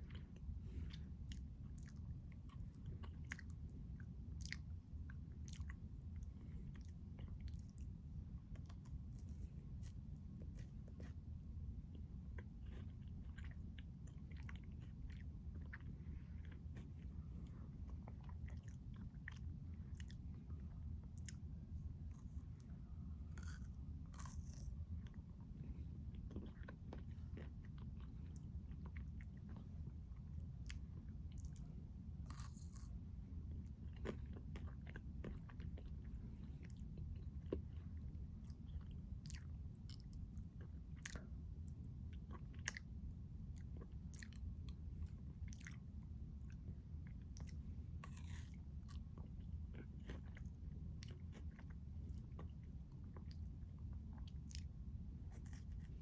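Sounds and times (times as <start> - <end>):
chewing crunchy chocolate bar: 0.0 - 56.0
steady low hum: 0.0 - 56.0.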